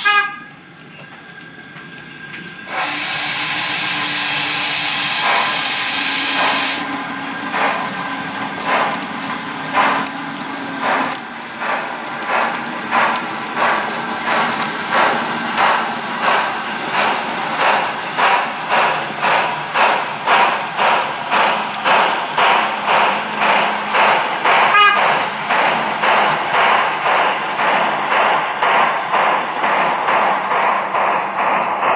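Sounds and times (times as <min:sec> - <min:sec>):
steam locomotive exhaust chuffs: 0:01.3 - 0:31.9
model locomotive steam hiss: 0:02.7 - 0:31.9.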